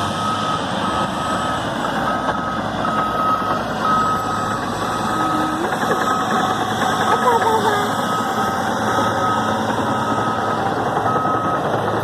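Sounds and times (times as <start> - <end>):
reversing alarm beeping: 0.0 - 11.8
diesel engines rumbling: 0.0 - 12.0.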